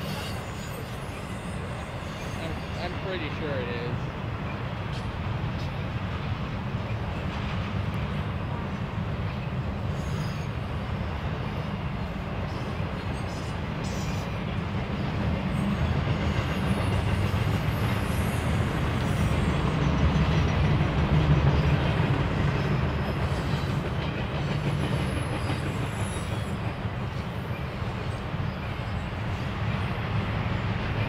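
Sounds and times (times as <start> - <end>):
train rumbling past: 0.0 - 31.0.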